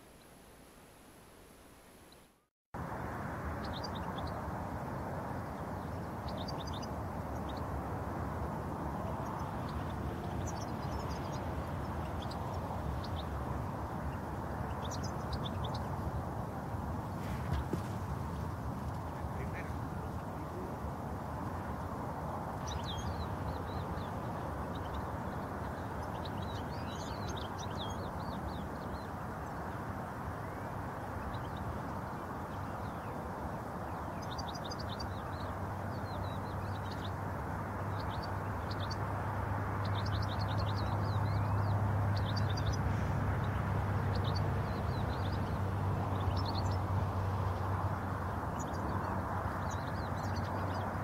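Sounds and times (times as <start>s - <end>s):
goldfinches chirping and twittering: 3.6s - 4.4s, 5.3s - 17.0s, 18.9s - 51.0s.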